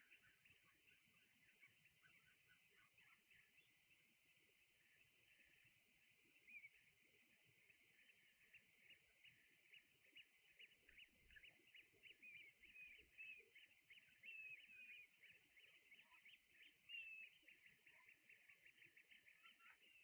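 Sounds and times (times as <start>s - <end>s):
flock of birds chirping: 0.0s - 20.0s.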